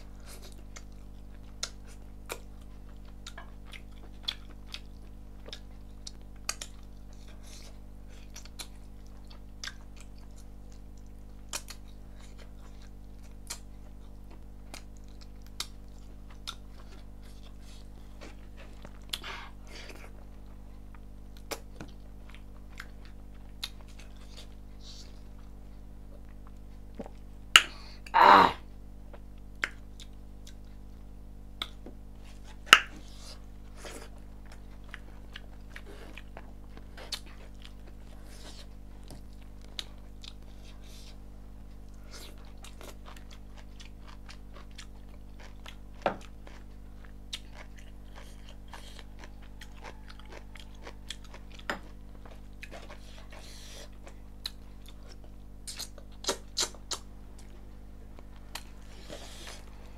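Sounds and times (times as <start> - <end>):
steady low hum: 0.0 - 59.9
chewing with wet mouth smacks: 0.2 - 27.7, 31.6 - 59.9.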